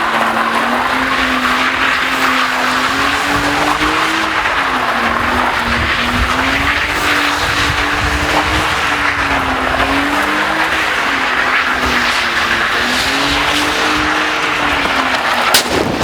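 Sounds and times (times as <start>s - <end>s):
car engine revving high: 0.0s - 16.0s
tyres squealing: 0.0s - 16.0s.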